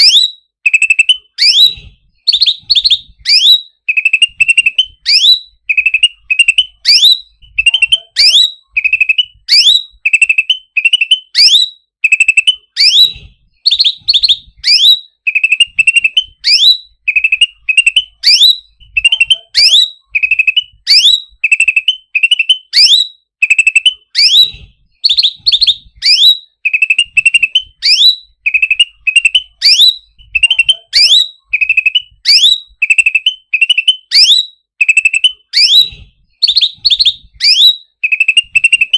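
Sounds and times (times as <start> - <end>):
songbird chirps and whistles: 0.0 - 38.9.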